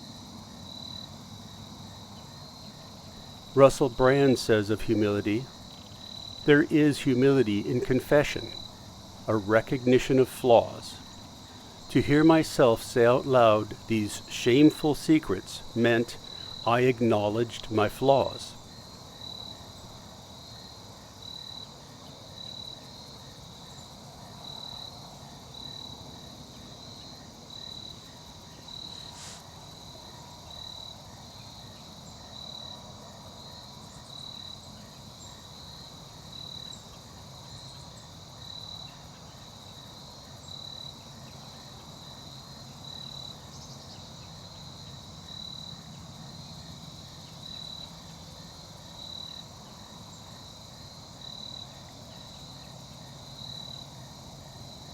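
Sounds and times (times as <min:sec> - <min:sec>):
insects chirping: 0:00.0 - 0:54.9.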